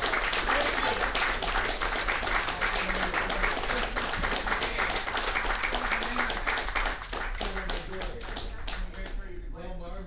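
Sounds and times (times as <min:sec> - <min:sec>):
audience clapping: 0:00.0 - 0:09.3.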